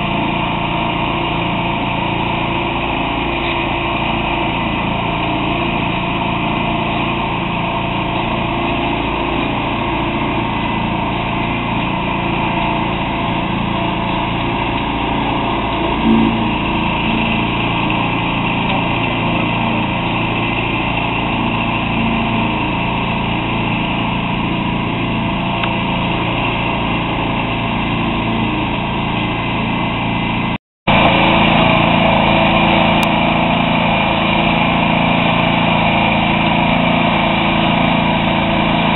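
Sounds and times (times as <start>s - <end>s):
concrete mixer engine running: 0.0s - 38.9s.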